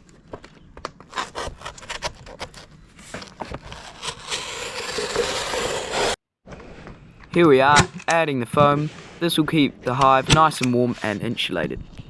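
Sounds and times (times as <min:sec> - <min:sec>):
materials crackling and scraping: 0:00.0 - 0:11.8.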